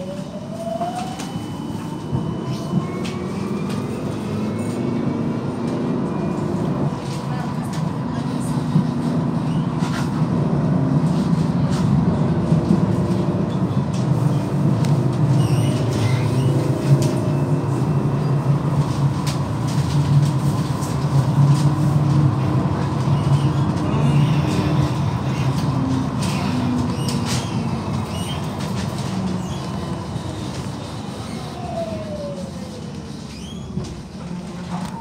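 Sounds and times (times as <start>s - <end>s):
tram wheels rumbling: 0.0s - 35.0s.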